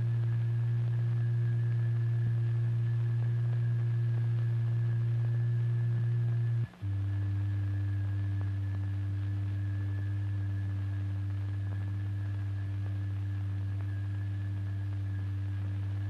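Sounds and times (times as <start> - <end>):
low electronic sine tone: 0.0 - 16.0.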